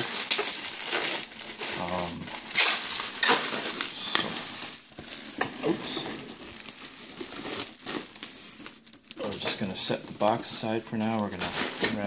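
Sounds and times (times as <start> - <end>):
bubble wrap crinkling: 0.0 - 12.0
cardboard rustling: 0.0 - 12.0.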